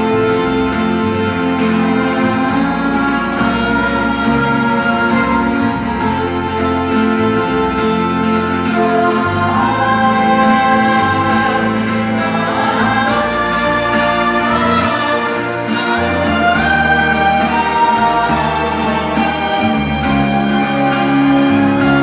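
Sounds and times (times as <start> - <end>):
orchestra playing: 0.0 - 22.0
voices singing a melody: 0.0 - 22.0.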